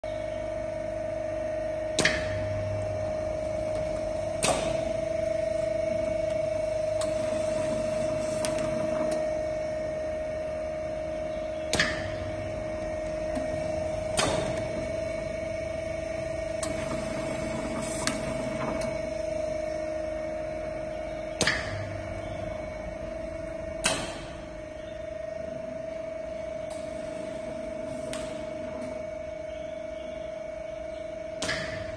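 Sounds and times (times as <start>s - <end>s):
machine humming: 0.0s - 31.9s.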